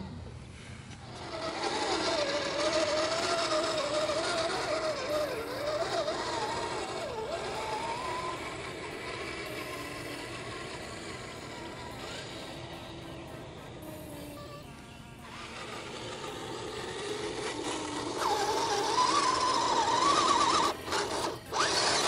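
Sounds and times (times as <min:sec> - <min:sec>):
rc car motor whining: 0:00.0 - 0:22.0.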